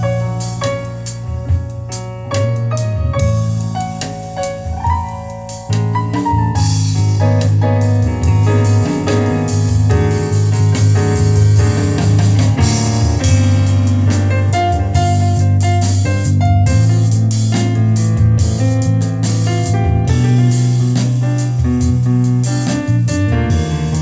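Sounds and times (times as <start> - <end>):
piano music with bass and drums: 0.0 - 24.0.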